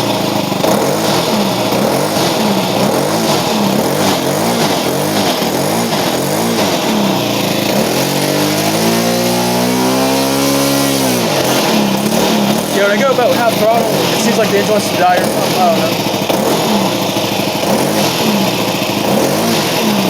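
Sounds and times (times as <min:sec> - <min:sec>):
model airplane engine surging: 0:00.0 - 0:20.0.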